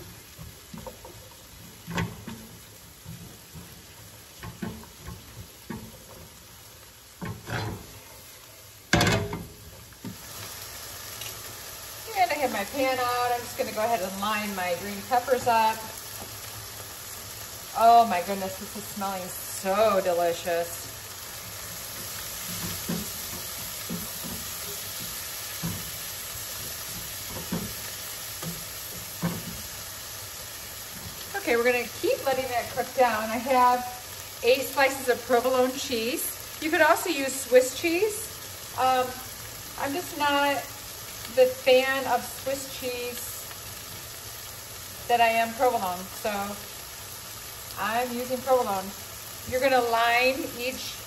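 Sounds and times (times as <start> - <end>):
onions and mushrooms sizzling: 0.0 - 51.0.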